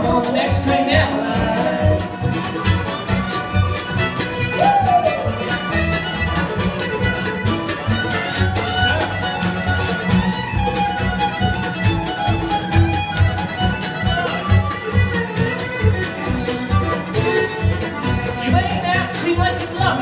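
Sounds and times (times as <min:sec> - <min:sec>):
bluegrass band playing: 0:00.0 - 0:20.0
fiddles playing melody: 0:00.0 - 0:20.0.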